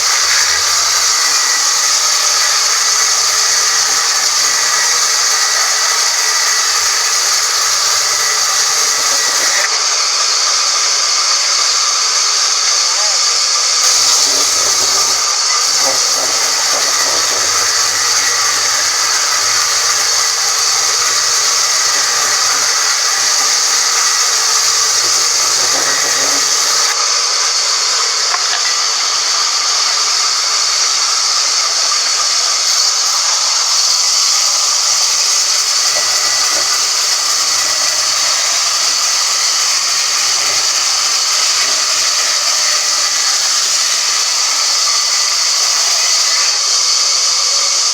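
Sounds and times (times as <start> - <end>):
woodworking machine hissing: 0.0 - 47.9.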